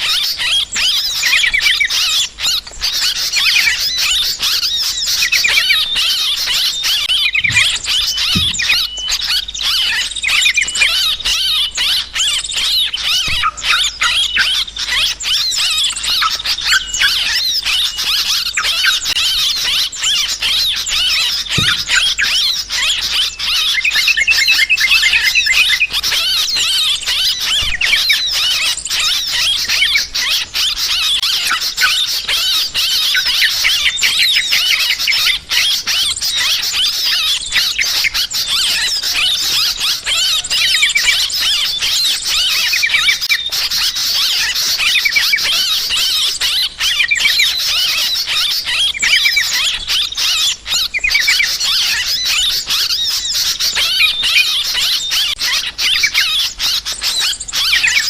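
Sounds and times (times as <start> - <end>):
bulbuls chattering: 0.0 - 58.0.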